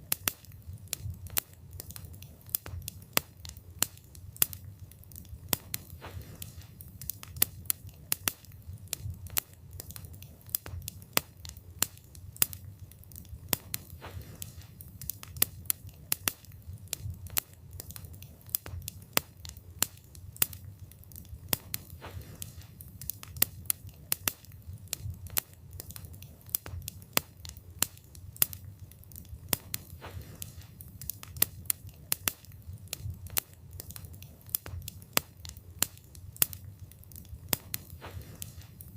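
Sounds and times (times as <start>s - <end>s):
burning wood crackling and popping: 0.0s - 38.9s
low rumble of flames: 0.0s - 38.9s.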